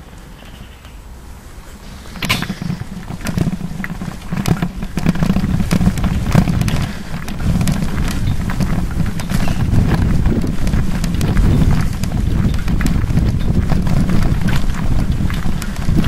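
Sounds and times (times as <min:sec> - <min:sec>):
bicycle rolling over gravel: 0:01.6 - 0:16.0
rattles and knocks over bumps: 0:01.8 - 0:16.0.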